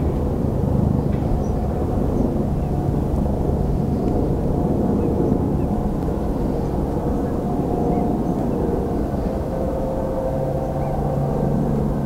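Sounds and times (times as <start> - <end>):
faint steady whine: 0.0 - 12.0
train rumbling: 0.0 - 12.0.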